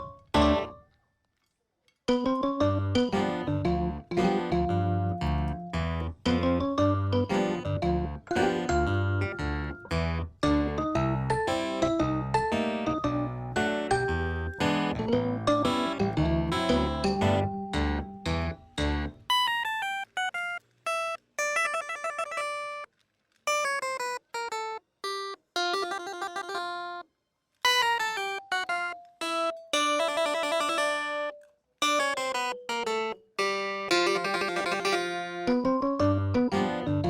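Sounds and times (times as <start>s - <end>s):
light melody of plucked notes: 0.0s - 0.8s, 2.1s - 22.8s, 23.5s - 27.0s, 27.7s - 37.0s.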